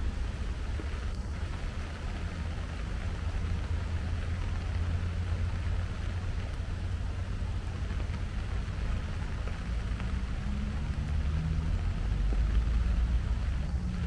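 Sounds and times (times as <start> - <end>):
faint engine hum: 0.0 - 14.0
rain hissing: 0.0 - 14.0.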